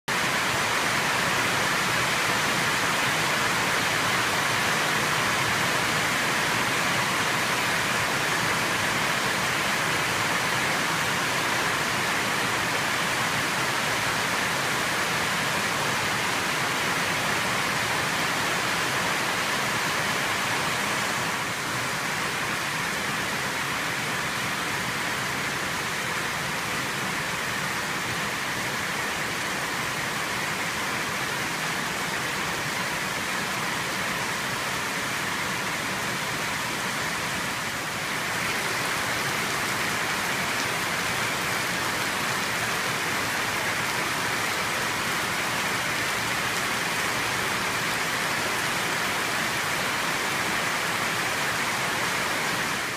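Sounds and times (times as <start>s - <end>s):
heavy rain falling: 0.1s - 52.9s.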